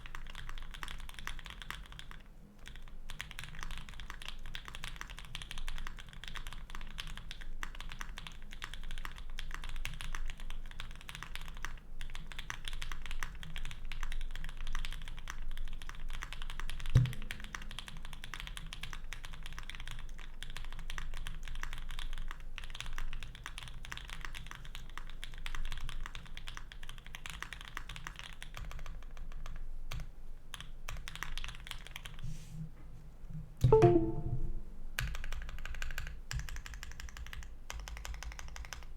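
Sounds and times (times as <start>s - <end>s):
fast mechanical keyboard typing: 0.0s - 32.2s, 35.3s - 38.9s.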